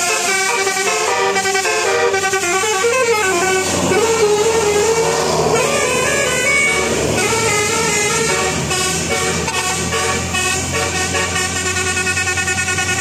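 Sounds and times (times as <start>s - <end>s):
musical bus horn melody: 0.0s - 13.0s.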